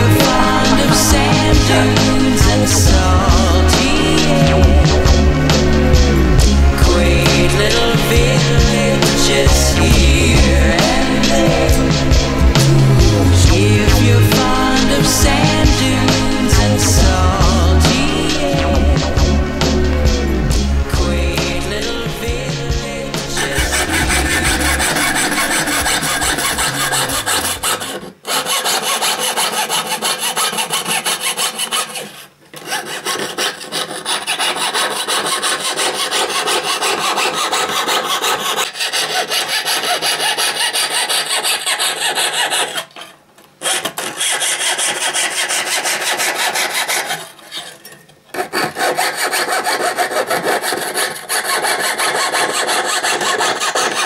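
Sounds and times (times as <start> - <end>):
fretsaw rasping through brass: 0.0 - 43.0, 48.5 - 54.0.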